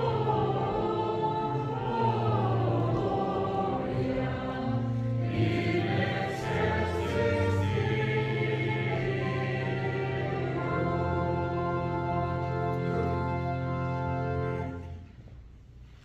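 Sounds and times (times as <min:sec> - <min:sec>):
church choir singing: 0:00.0 - 0:14.9.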